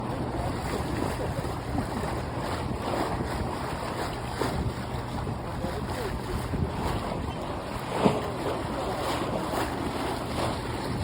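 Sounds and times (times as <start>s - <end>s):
sea water washing around boat: 0.0s - 11.0s
wind buffeting microphone: 0.0s - 11.0s.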